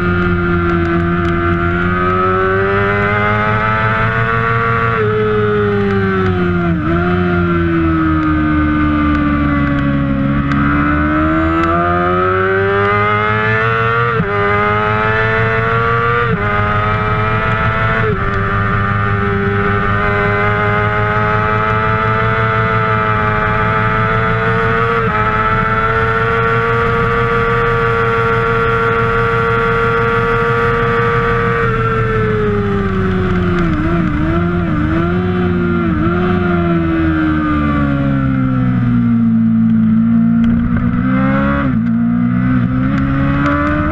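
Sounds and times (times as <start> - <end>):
motorcycle engine at high revs: 0.0 - 43.9.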